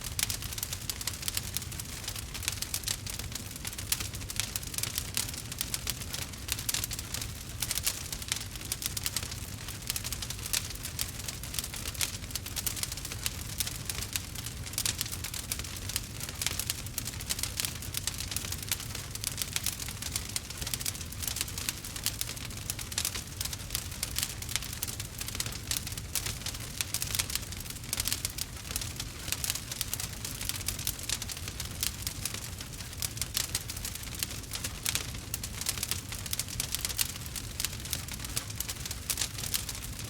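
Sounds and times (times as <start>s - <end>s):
burning wood crackling: 0.0s - 40.0s.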